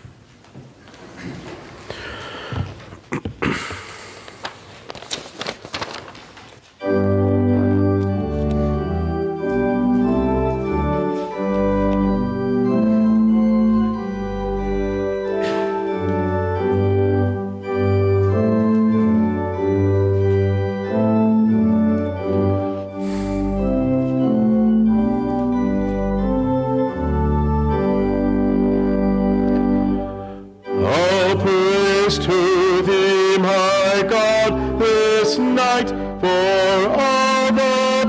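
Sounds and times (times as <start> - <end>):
church organ chords: 6.8 - 38.0.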